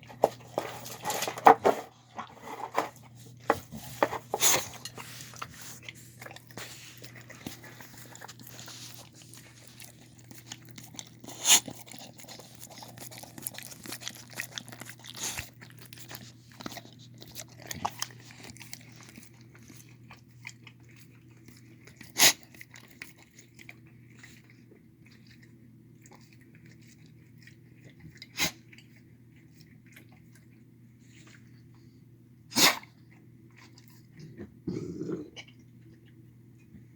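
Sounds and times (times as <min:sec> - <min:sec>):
dog chewing food: 0:00.0 - 0:32.1, 0:32.8 - 0:36.9.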